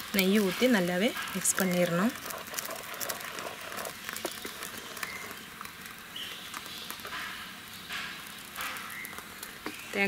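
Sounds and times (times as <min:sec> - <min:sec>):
ladle stirring thick batter: 0:00.0 - 0:10.0.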